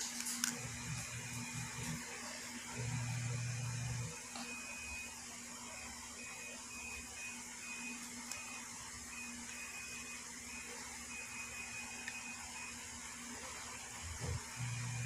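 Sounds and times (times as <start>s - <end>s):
faint high whine: 0.2s - 15.0s.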